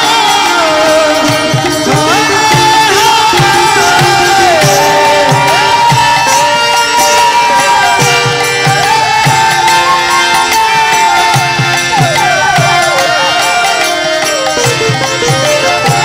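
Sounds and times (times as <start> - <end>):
hand-drum strokes: 0.0 - 16.0
jingling percussion: 0.0 - 16.0
gliding melody line: 1.0 - 16.0.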